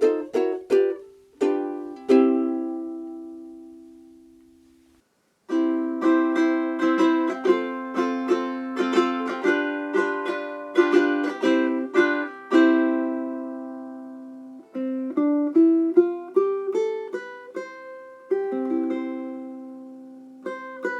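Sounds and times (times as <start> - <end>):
ukulele chords and plucked notes: 0.0 - 4.9, 5.5 - 20.9.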